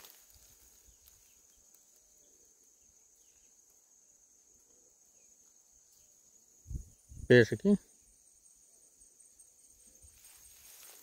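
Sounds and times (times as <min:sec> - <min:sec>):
faint insect drone: 0:00.0 - 0:11.0.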